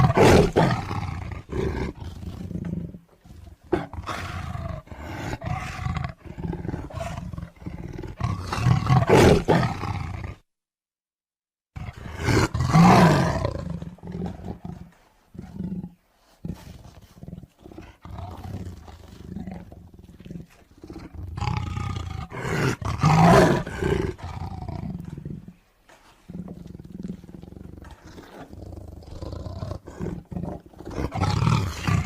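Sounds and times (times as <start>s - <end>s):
tiger roaring: 0.0s - 10.4s, 11.8s - 25.6s, 26.2s - 32.0s.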